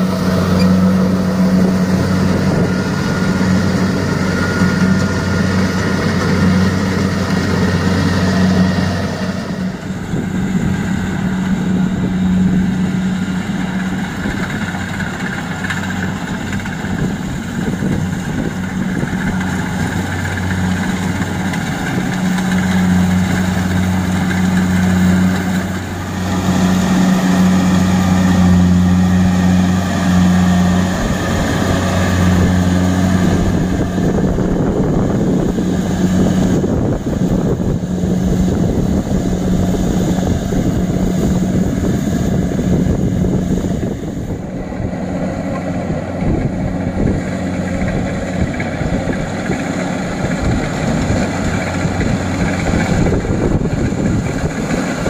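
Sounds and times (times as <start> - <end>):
loud diesel engine drone: 0.0 - 55.0
threshing machinery whirring: 0.0 - 55.0.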